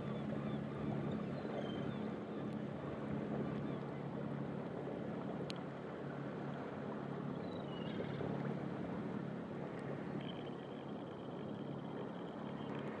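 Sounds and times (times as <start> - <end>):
sea water at shoreline: 0.0 - 13.0
wind: 0.0 - 13.0.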